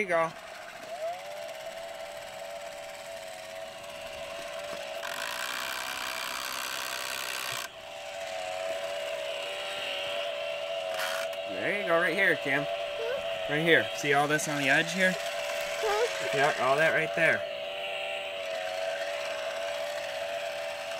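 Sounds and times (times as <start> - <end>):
electric string trimmer whining: 0.0 - 20.9
trimmer line hissing through grass: 0.0 - 20.9.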